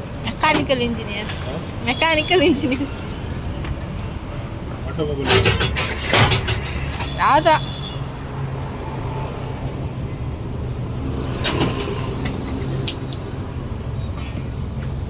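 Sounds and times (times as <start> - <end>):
low rumble of road vehicles: 0.0 - 15.0.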